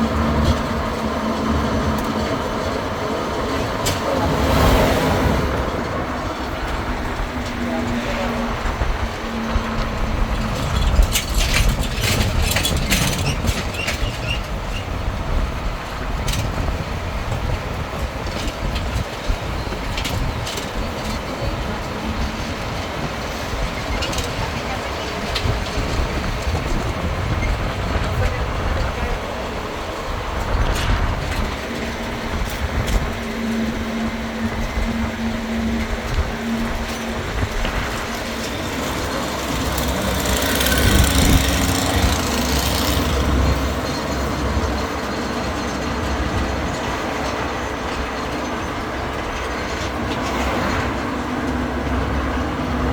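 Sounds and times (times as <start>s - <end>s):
wagon rattling and clattering: 0.0s - 4.4s, 5.6s - 52.9s
running gear rumbling: 0.0s - 52.9s.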